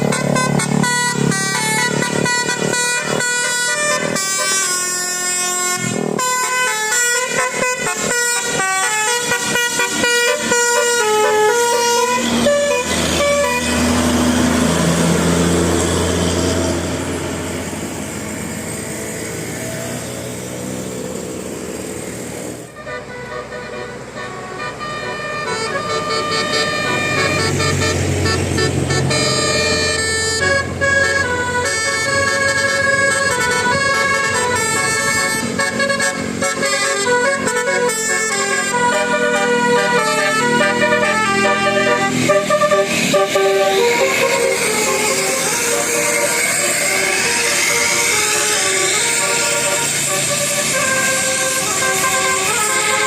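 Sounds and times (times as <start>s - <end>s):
musical air horn: 0.0s - 16.7s, 22.6s - 53.0s
bus engine revving: 0.0s - 53.0s
road noise: 0.0s - 53.0s.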